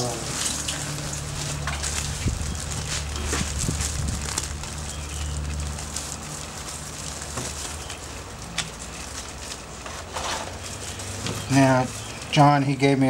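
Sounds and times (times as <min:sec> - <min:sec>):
plastic bag crackling: 0:00.0 - 0:12.8.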